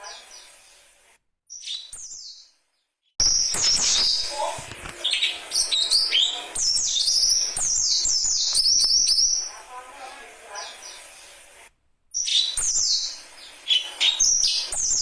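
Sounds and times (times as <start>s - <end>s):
birds chirping and whistling: 0.0s - 0.8s, 1.5s - 9.7s, 10.5s - 11.4s, 12.1s - 15.0s.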